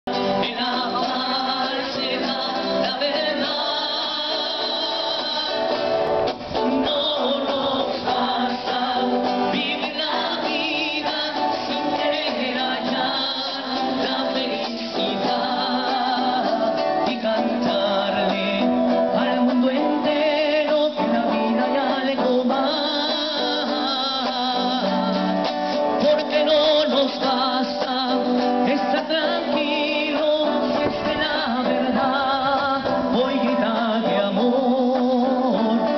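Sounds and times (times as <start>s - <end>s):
guitar accompaniment: 0.0s - 35.9s
men and women singing: 0.1s - 35.9s.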